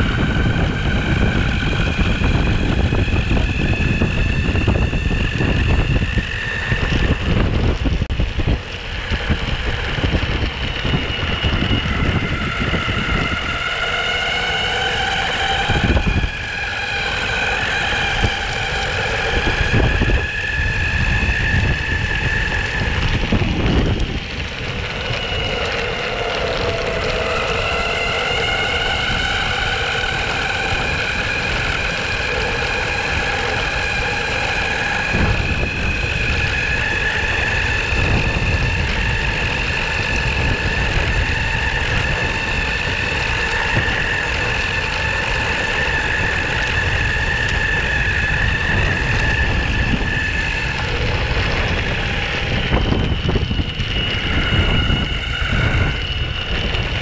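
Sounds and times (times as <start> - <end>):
electric motor whine: 0.0 - 57.0
rubber wheels rolling: 0.0 - 57.0.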